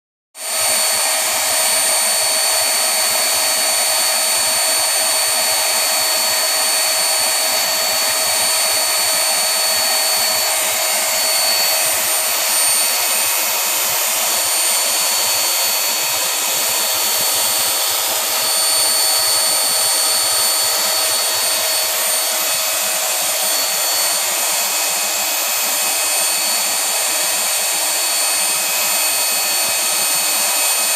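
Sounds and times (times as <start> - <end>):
chip vacuum running: 0.4 - 30.9.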